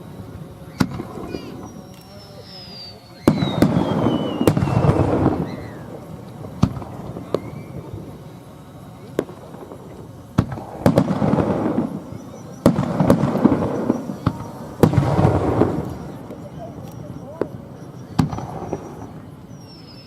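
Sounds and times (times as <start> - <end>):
fireworks bangs with rumbling echo: 0.0 - 20.0.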